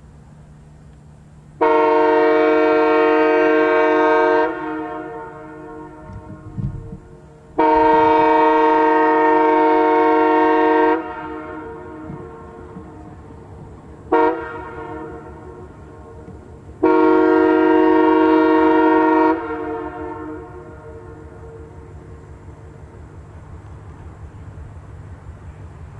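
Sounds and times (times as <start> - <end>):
locomotive air horn blasts: 1.6 - 13.4, 14.0 - 23.0.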